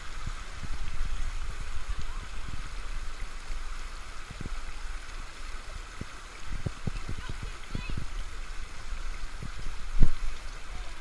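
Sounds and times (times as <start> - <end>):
creek water over rocks: 0.0 - 11.0.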